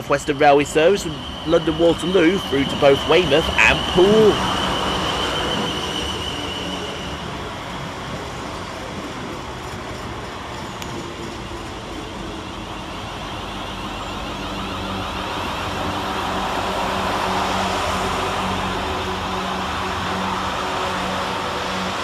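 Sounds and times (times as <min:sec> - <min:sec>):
electric train running hum: 0:00.0 - 0:22.0.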